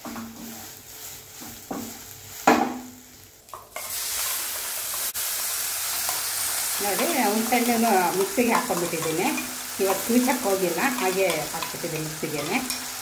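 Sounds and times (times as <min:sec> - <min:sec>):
spatula stirring in a pan: 0:00.0 - 0:02.6, 0:03.5 - 0:13.0
frying sizzle: 0:00.0 - 0:13.0.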